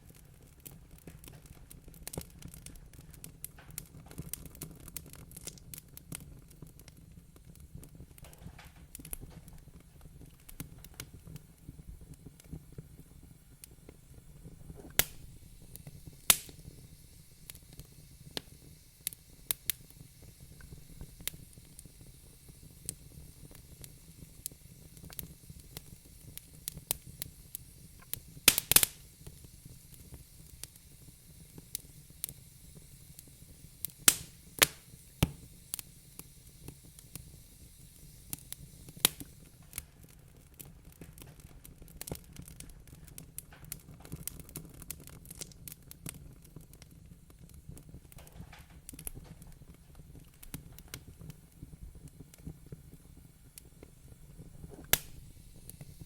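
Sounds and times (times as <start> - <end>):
fireplace fire crackling: 0.0 - 56.0
low fire rumble: 0.0 - 56.0.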